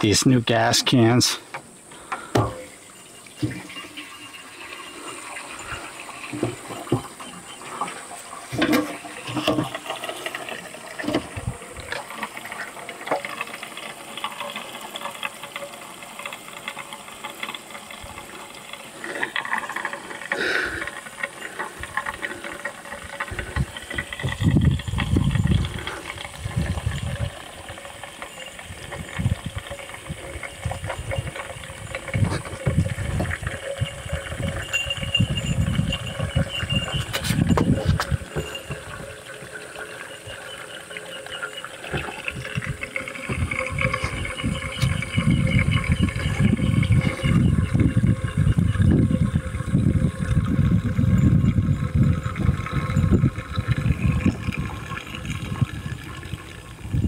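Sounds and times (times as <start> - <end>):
gasoline glugging from a can: 0.0 - 57.0.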